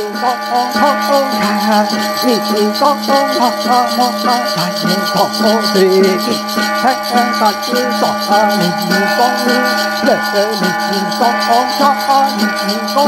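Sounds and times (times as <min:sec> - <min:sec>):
metal ring rattle jingling: 0:00.0 - 0:13.0
person chanting: 0:00.0 - 0:13.0.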